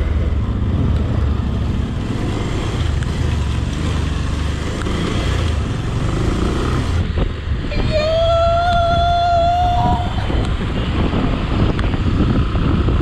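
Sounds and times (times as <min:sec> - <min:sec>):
vehicle driving low rumble: 0:00.0 - 0:13.0.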